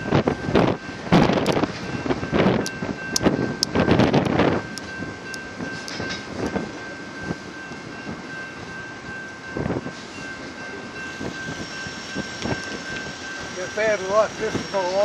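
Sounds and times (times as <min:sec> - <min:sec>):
freight train rolling rumble: 0:00.0 - 0:15.0
train knocks: 0:00.0 - 0:15.0.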